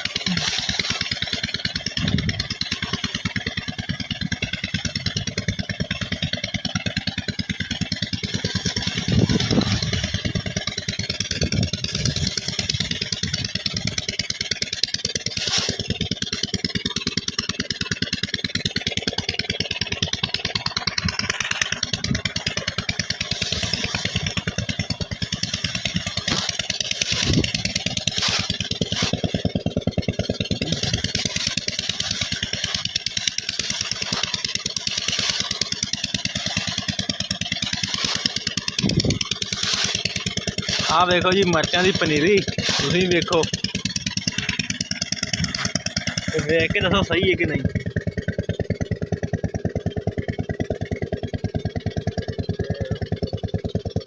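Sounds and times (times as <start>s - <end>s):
engine driving water pump: 0.0s - 54.0s
engine knocks: 0.0s - 54.0s.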